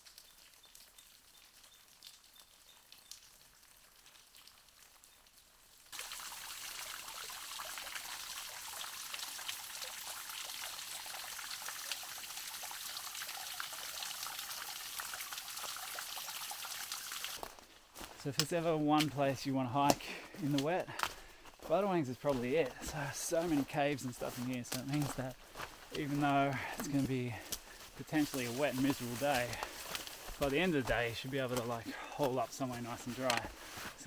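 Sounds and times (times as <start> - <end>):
patter and rush of water: 0.0 - 19.2, 19.8 - 34.0.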